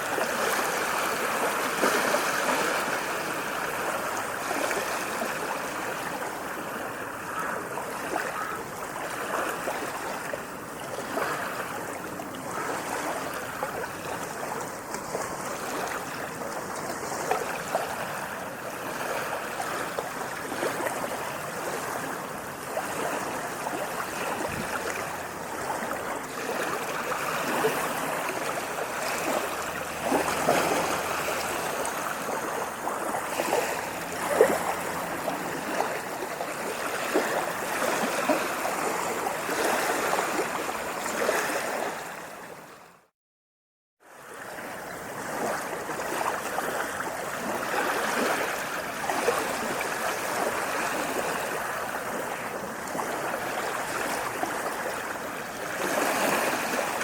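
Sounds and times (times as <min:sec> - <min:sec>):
water lapping and splashing: 0:00.0 - 0:43.1, 0:44.0 - 0:57.0.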